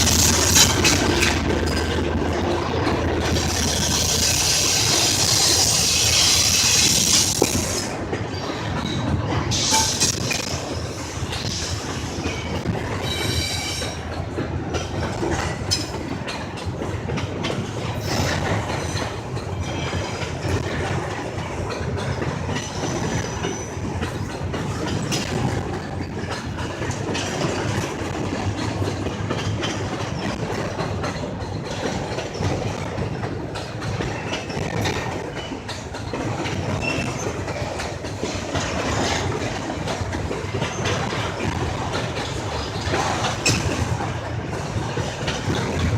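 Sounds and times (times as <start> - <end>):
train wheels clacking on rails: 0.0 - 45.9.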